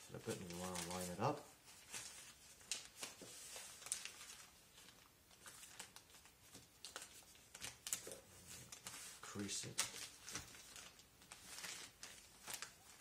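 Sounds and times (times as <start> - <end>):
newspaper rustling and crinkling: 0.0 - 13.0.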